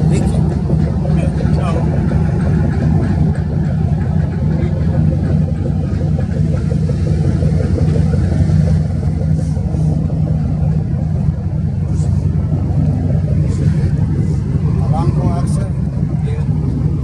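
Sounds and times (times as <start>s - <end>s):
ship diesel engine droning: 0.0s - 17.0s.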